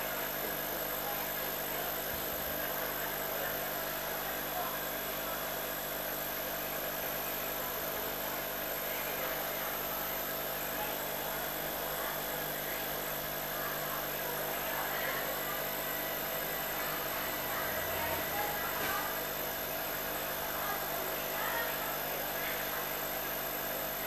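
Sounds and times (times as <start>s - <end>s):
faint indistinct voices: 0.0s - 24.0s
mechanical hum and hiss: 0.0s - 24.0s.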